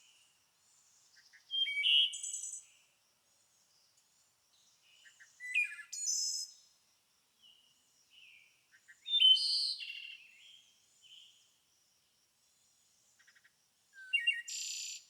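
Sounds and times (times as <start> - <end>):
songbird singing: 0.0 - 6.8, 7.4 - 11.5, 12.6 - 15.0.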